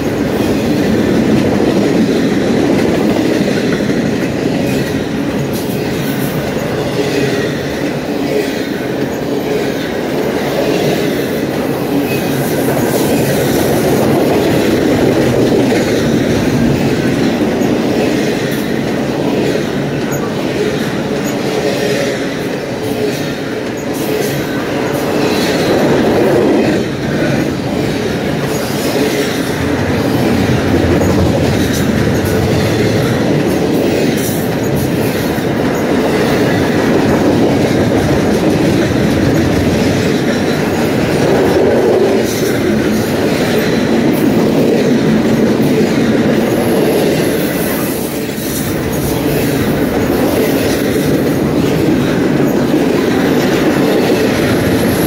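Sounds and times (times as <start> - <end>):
clickety-clack over rail joints: 0.0 - 55.0
train wheels rumbling on rails: 0.0 - 55.0.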